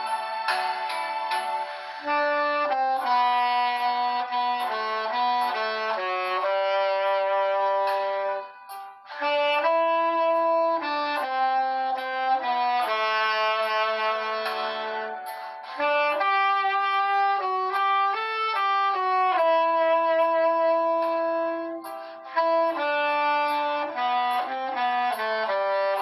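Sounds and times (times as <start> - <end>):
backing track with hi-hat beat: 0.0 - 26.0
tenor saxophone melody: 0.0 - 26.0.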